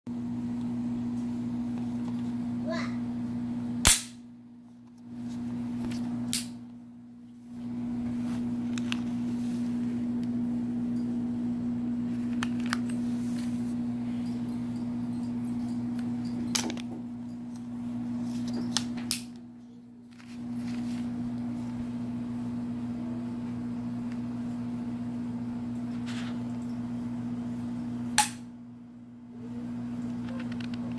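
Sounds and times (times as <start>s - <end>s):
steady low hum: 0.1s - 30.9s.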